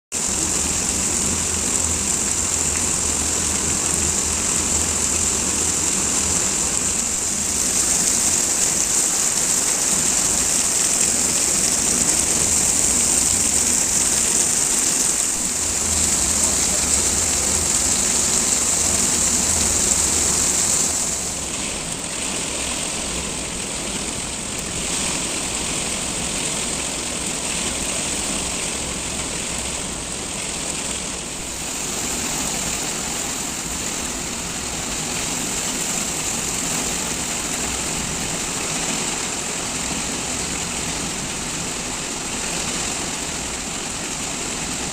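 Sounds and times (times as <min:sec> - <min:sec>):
heavy rain falling: 0:00.1 - 0:44.9.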